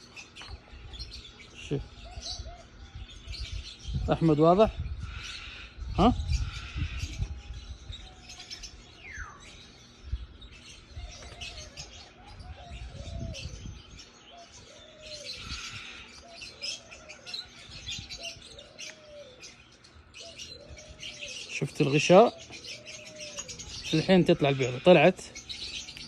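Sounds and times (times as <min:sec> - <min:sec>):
low arched bird calls: 0:00.0 - 0:26.0
small birds chirping: 0:00.0 - 0:26.0.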